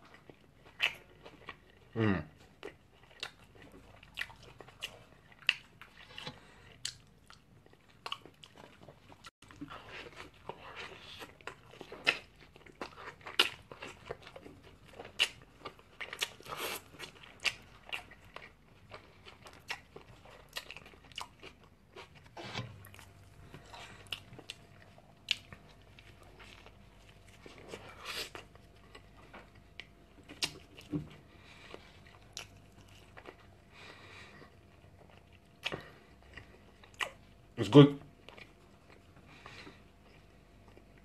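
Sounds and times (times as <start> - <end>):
person chewing a burger: 0.0 - 41.0.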